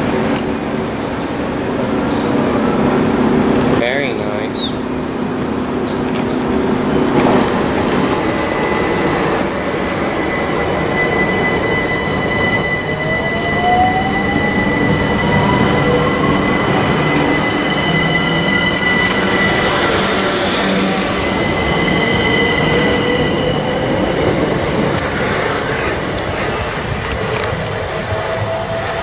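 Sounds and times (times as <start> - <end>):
electric train whine: 0.0 - 29.0.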